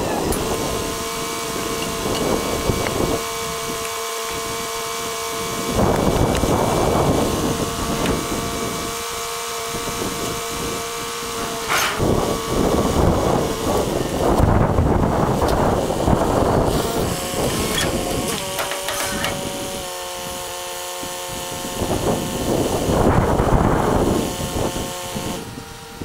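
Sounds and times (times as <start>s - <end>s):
small tractor engine whining: 0.0s - 26.0s.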